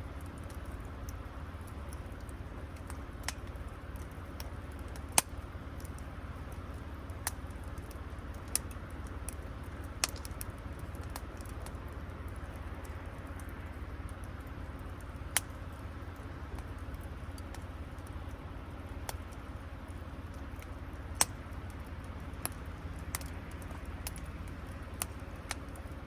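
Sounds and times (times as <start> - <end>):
campfire crackling and popping: 0.0 - 26.0
steady low rumble: 0.0 - 26.0.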